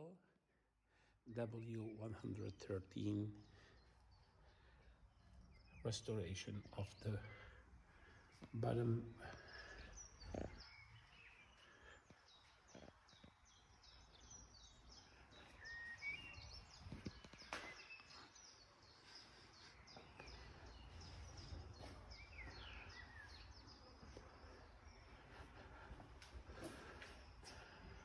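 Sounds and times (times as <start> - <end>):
birds chirping: 1.0 - 28.0.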